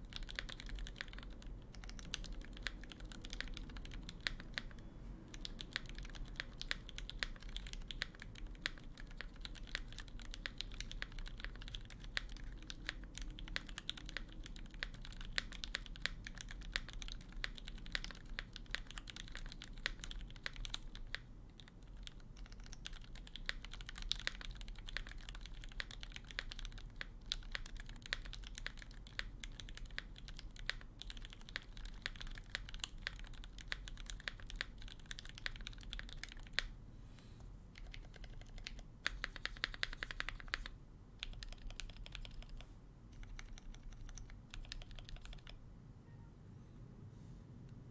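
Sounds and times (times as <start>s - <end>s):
mechanical keyboard typing: 0.0s - 36.7s, 37.8s - 45.6s.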